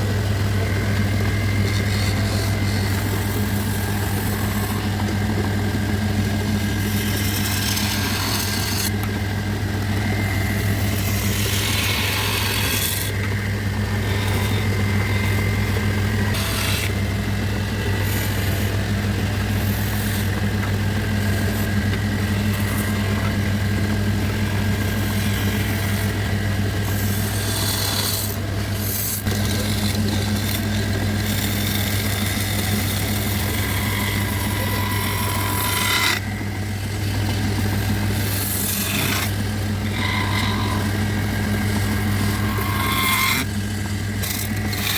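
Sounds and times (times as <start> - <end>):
tool scraping wood: 0.0 - 44.9
woodworking machine humming: 0.0 - 44.9.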